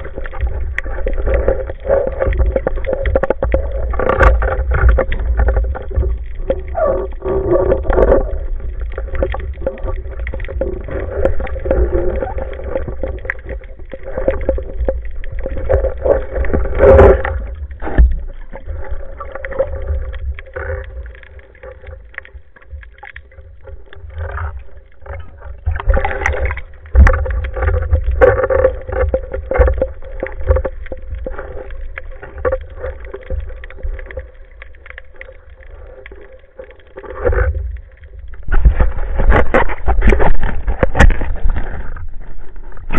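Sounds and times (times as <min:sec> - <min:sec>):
muffled underwater water noise: 0:00.0 - 0:42.9
water surges: 0:00.0 - 0:42.9.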